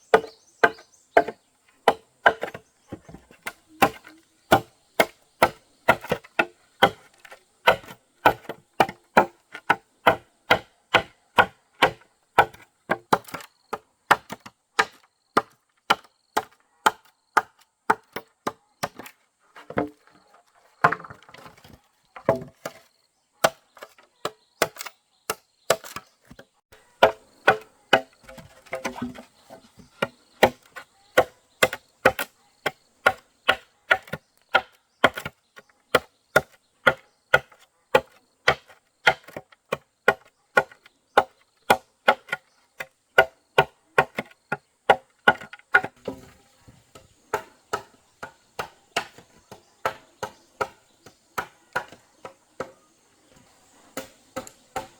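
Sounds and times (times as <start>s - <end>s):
tool striking wood: 0.1s - 20.0s, 23.4s - 42.5s, 44.9s - 52.8s.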